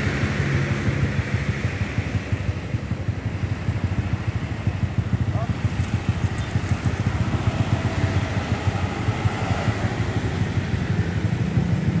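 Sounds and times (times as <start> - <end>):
bus and motorcycle engines: 0.0 - 12.0.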